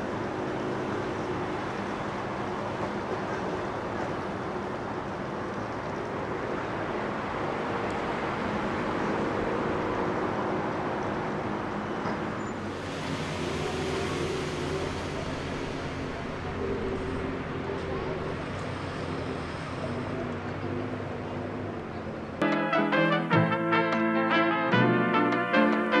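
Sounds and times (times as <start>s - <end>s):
engines running: 0.0s - 22.6s
outdoor noise: 0.0s - 26.0s.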